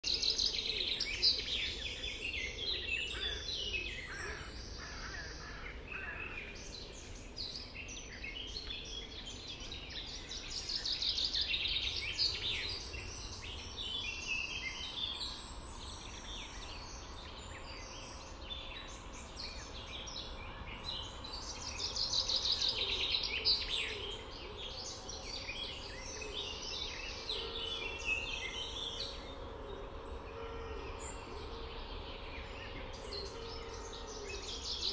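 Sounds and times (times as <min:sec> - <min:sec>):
birds singing: 0:00.0 - 0:34.9.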